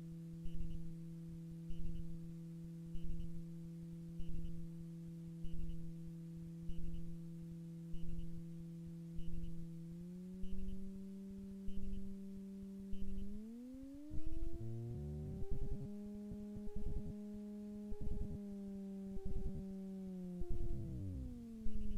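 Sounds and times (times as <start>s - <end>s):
aircraft engine humming: 0.0s - 21.9s.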